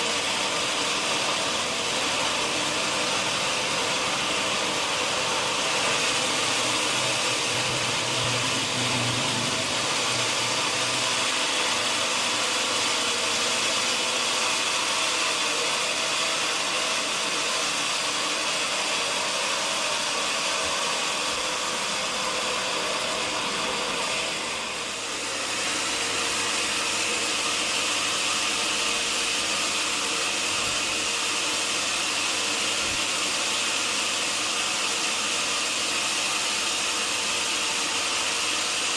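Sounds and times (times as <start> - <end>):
sawmill machinery whining: 0.0 - 38.9.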